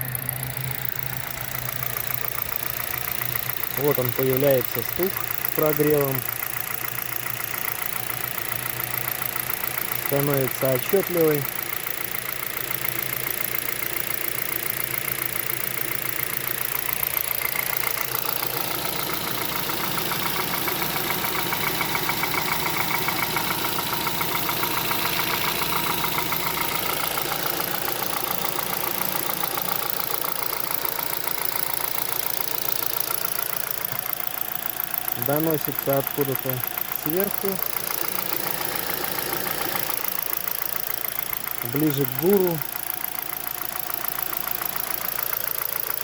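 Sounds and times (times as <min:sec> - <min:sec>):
car engine idling: 0:00.0 - 0:46.0
rapid engine knock: 0:00.0 - 0:46.0.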